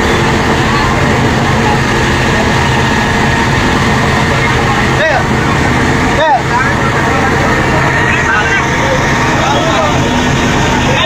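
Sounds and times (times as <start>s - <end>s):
heavy engine droning: 0.0s - 11.0s
rushing noise: 0.0s - 11.0s.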